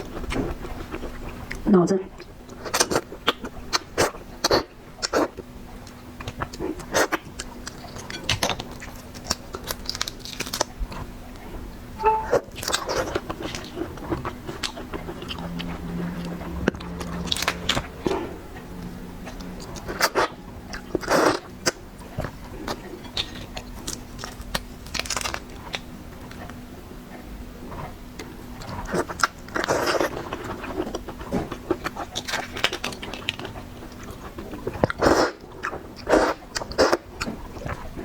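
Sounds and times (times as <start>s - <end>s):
crunchy chewing: 0.0s - 38.0s.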